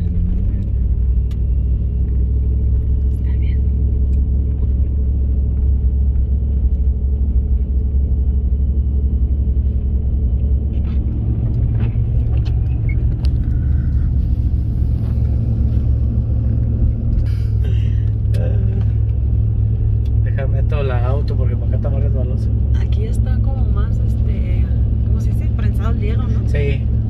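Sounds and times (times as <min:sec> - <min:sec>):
car cabin engine and tyre rumble: 0:00.0 - 0:27.0.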